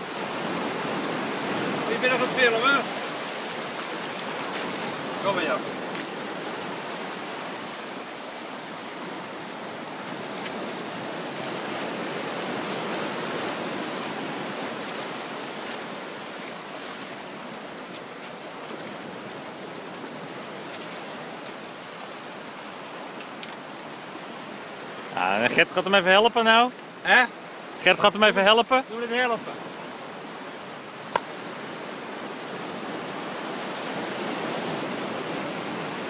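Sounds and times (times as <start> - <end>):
sea surf washing over rocks: 0.0 - 36.0.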